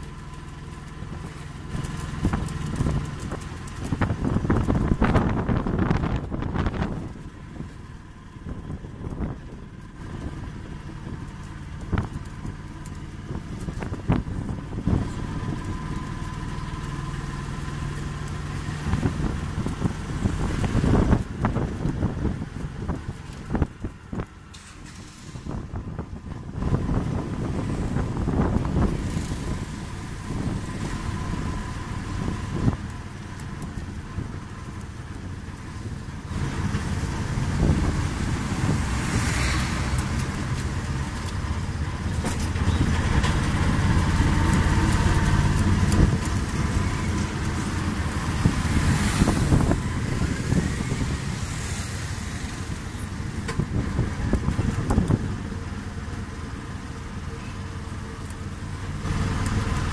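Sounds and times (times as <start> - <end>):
auto-rickshaw engine running: 0.0 - 59.9
passing traffic: 0.0 - 59.9.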